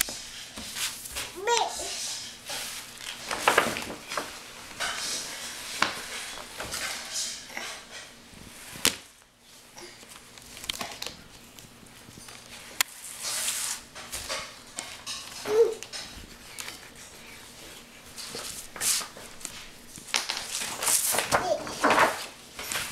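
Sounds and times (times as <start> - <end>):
paper rustling on wooden floor: 0.0 - 7.3, 10.0 - 22.9.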